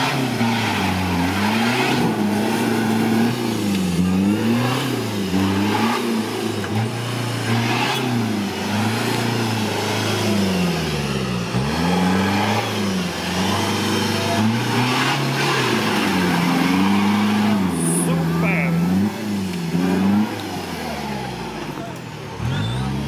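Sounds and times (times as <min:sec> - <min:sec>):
engine revving hard: 0:00.0 - 0:23.0.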